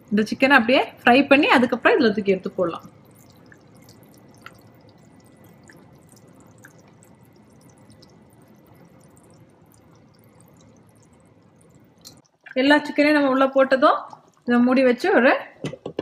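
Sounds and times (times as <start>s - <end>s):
curry bubbling in a pan: 1.4s - 15.2s.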